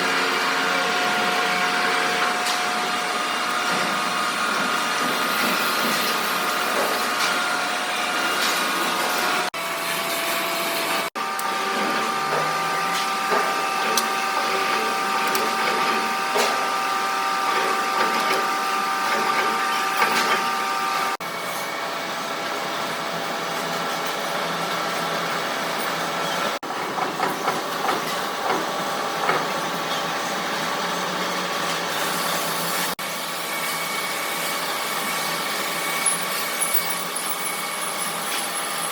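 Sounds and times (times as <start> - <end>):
shop machinery whine: 0.0 - 38.9.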